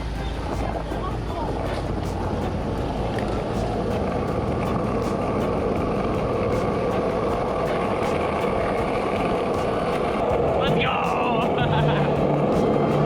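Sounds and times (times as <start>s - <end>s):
motorbike engine running: 0.0s - 13.0s
road noise: 0.0s - 13.0s.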